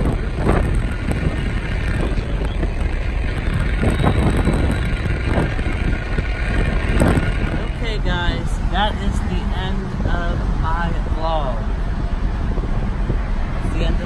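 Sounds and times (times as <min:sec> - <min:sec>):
road and engine rumble: 0:00.0 - 0:14.0
wind noise: 0:00.0 - 0:14.0.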